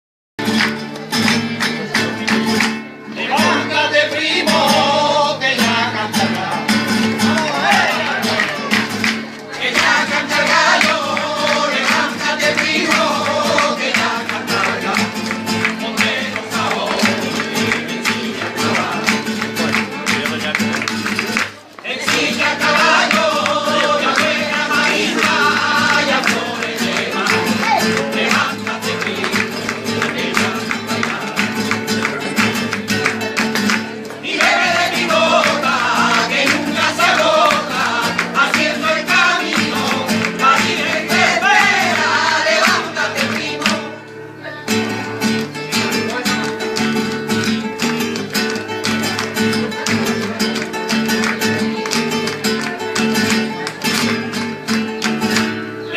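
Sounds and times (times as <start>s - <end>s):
guitar playing: 0.4s - 55.9s.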